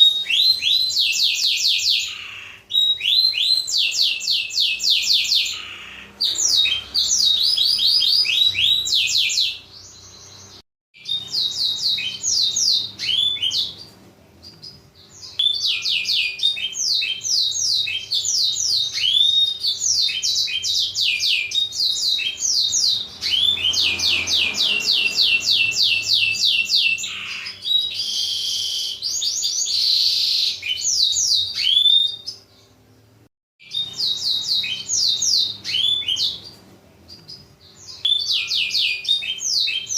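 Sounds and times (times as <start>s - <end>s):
canary singing trills: 0.0s - 32.9s, 33.6s - 39.9s.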